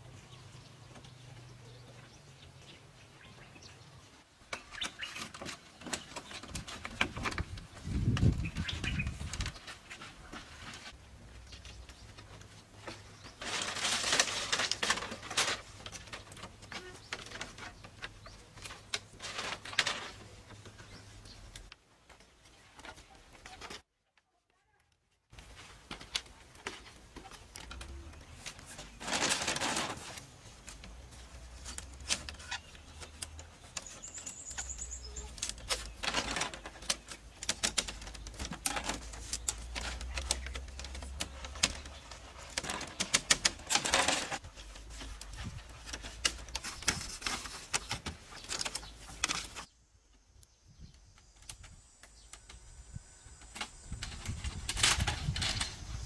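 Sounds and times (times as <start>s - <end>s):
bamboo strips clicking and rattling: 4.4s - 23.9s, 25.3s - 50.2s, 53.4s - 56.0s.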